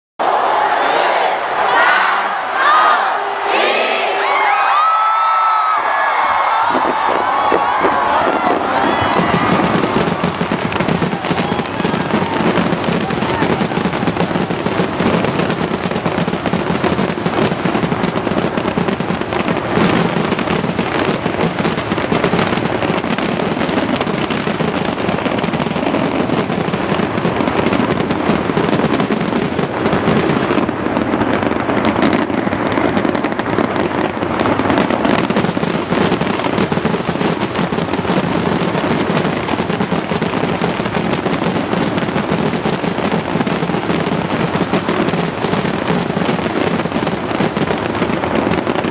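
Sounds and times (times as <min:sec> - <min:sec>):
fireworks bangs and crackling: 0:04.0 - 0:48.9.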